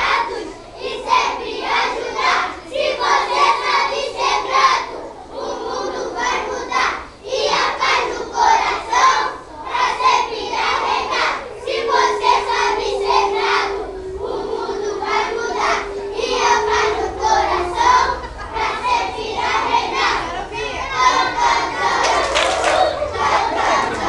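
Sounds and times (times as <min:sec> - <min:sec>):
children singing and chanting: 0:00.0 - 0:24.0.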